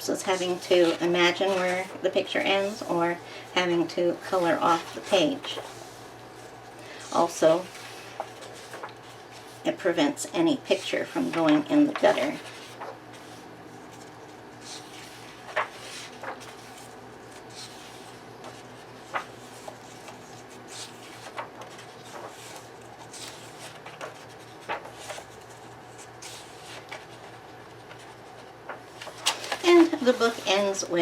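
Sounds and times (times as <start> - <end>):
book pages turning: 0.3 - 3.0, 4.0 - 9.7, 10.7 - 31.0.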